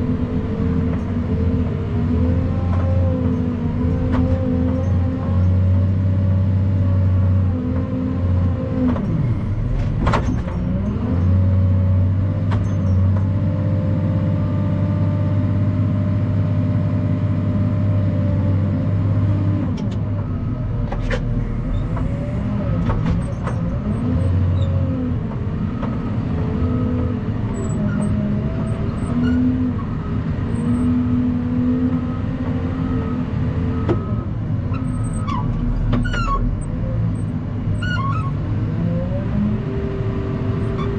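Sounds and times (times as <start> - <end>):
heavy truck engine: 0.0 - 40.9.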